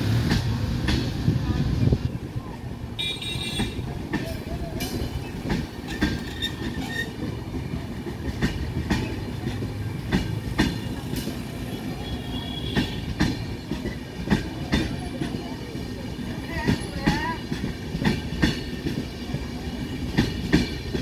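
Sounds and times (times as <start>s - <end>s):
train coaches rumbling past: 0.0s - 21.0s
wheels clacking over rail joints: 0.0s - 21.0s.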